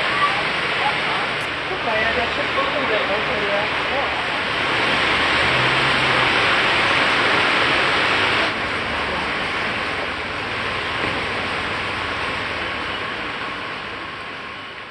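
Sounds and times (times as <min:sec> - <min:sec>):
floodwater rushing and splashing: 0:00.0 - 0:14.9.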